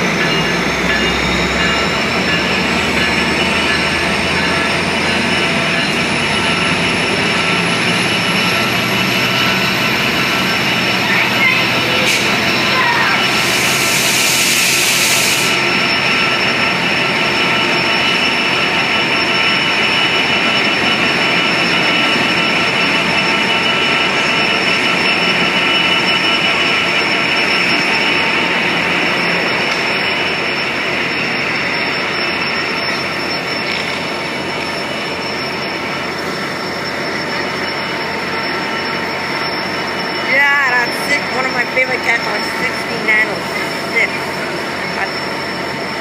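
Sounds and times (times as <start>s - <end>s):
diesel locomotive high whine: 0.0s - 46.0s
train cars rolling on rails: 0.0s - 46.0s.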